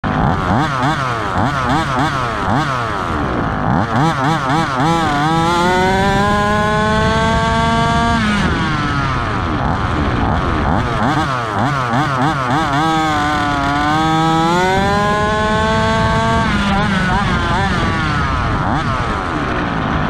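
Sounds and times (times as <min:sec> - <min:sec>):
toy buggy two-stroke engine revving: 0:00.0 - 0:20.0.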